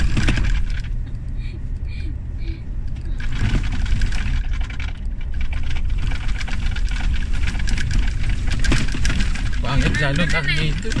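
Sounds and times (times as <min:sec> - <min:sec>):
gravel clicks and rattles: 0:00.0 - 0:01.2, 0:02.9 - 0:11.0
truck rumble from inside cab: 0:00.0 - 0:11.0.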